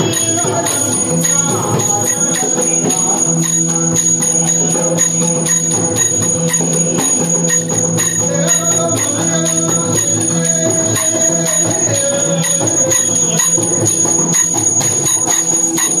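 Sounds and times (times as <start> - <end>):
bells ringing: 0.0 - 16.0
drum beat: 0.0 - 16.0
steady drone with melodic tones: 0.0 - 16.0.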